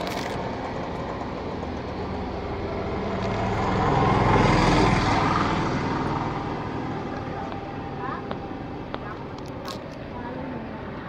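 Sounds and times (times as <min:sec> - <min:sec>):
vehicle passing on road: 0:00.0 - 0:11.0.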